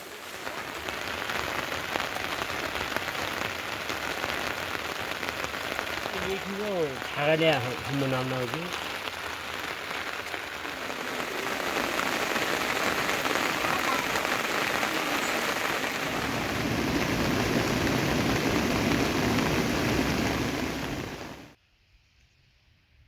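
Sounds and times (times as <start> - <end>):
steady rain falling: 0.0 - 21.6.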